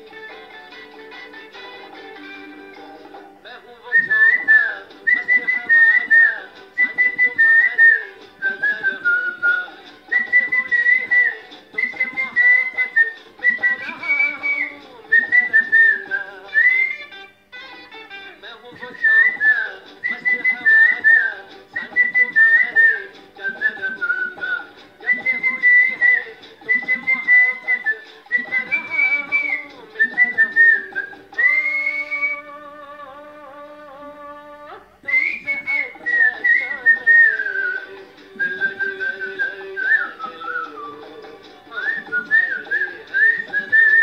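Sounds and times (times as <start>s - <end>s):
karaoke backing track: 0.0s - 44.0s
man whistling a melody: 3.9s - 17.2s, 18.8s - 32.5s, 35.0s - 44.0s.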